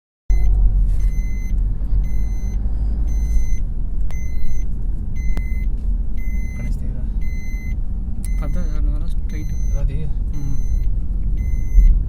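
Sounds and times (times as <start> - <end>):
low traffic rumble: 0.3 - 12.0
reversing alarm beeping: 0.3 - 12.0.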